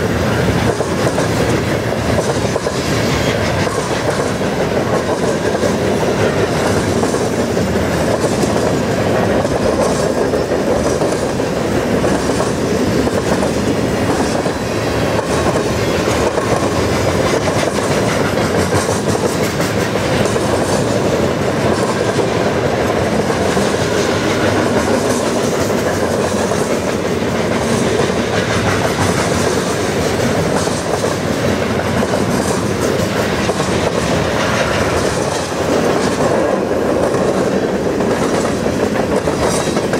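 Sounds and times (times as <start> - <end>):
freight train rolling past: 0.0 - 39.9
wheels clattering over rail joints: 0.0 - 39.9.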